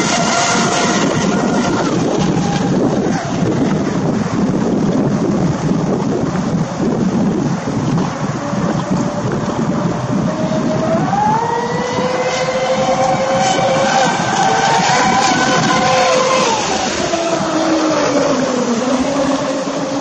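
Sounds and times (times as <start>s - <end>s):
model speedboat motors whining: 0.0s - 20.0s
wind noise on microphone: 0.0s - 20.0s.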